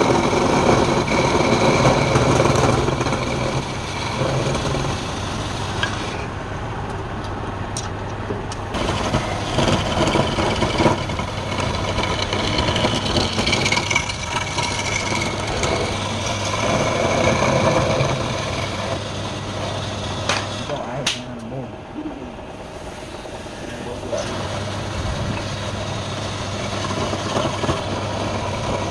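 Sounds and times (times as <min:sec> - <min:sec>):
turning tool scraping wood: 0:00.0 - 0:06.3, 0:08.6 - 0:21.2, 0:22.5 - 0:28.9
lathe motor hum: 0:00.0 - 0:28.9.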